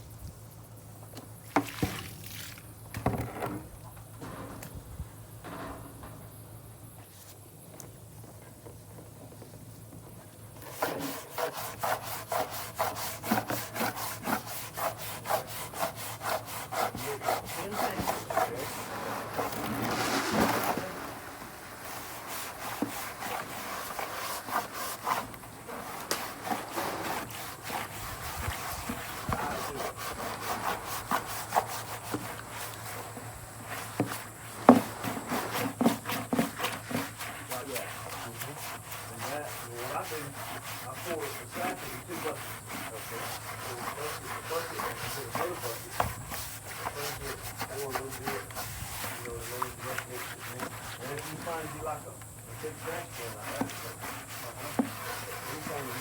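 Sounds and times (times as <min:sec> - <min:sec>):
rhythmic scraping strokes: 0:10.6 - 0:56.0.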